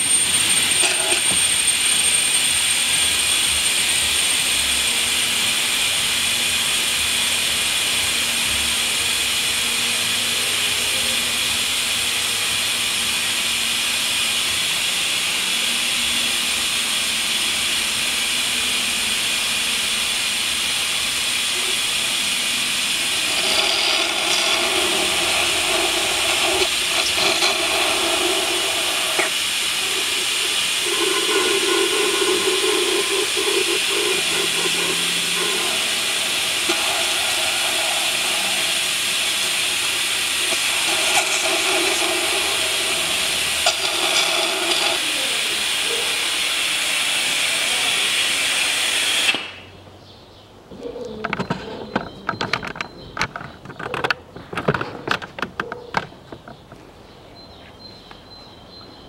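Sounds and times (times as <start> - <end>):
vacuum hose sucking oil: 0.0 - 49.7.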